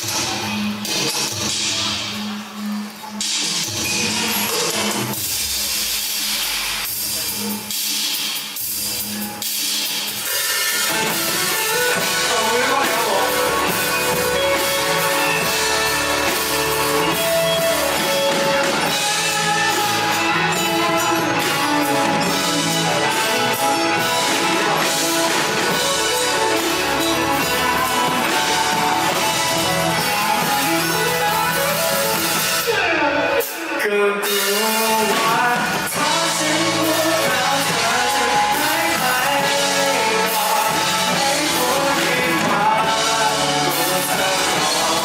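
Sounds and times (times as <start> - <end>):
live band playing pop-rock: 0.0 - 45.0.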